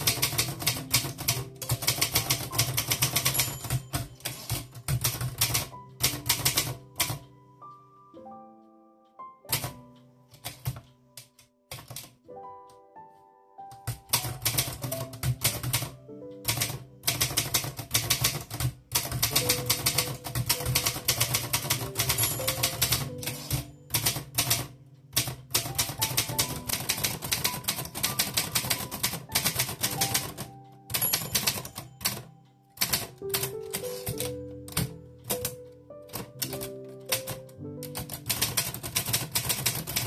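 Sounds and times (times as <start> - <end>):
manual typewriter typing: 0.0 - 7.3, 9.5 - 12.2, 13.7 - 40.0
background music: 0.0 - 40.0.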